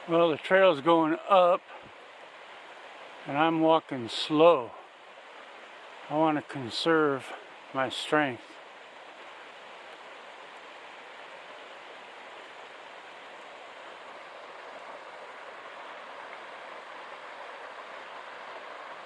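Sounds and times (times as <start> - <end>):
mountain stream rushing: 0.0 - 19.0.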